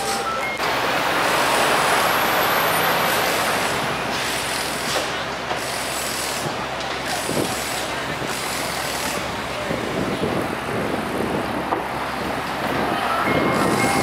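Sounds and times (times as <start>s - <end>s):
heavy truck passing: 0.0s - 14.0s.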